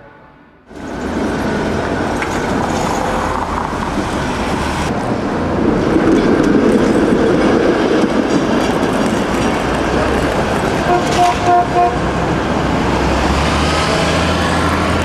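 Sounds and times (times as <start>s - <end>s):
streetcar wheels rumbling on rails: 0.6s - 15.0s.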